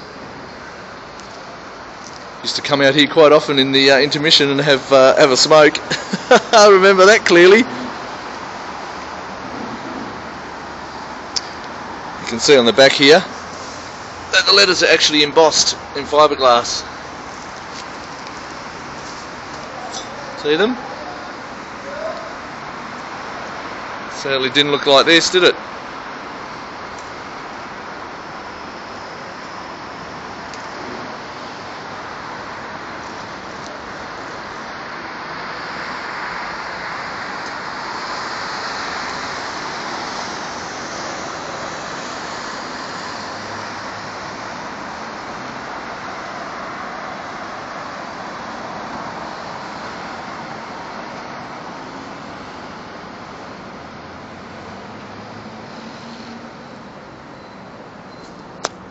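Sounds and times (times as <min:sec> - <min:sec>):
road traffic hiss: 0:00.0 - 0:58.9.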